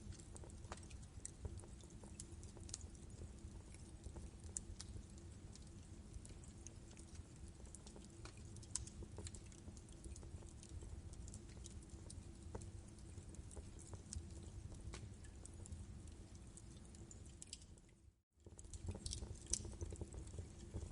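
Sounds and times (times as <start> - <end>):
logs crackling and popping: 0.0 - 17.8, 18.4 - 20.9
low rumble of flames: 0.0 - 20.9.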